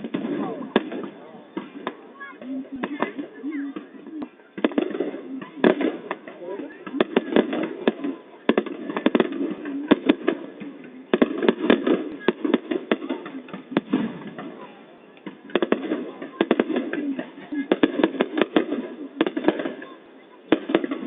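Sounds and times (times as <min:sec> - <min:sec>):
fireworks banging: 0:00.0 - 0:21.0
voices of onlookers: 0:00.0 - 0:21.0.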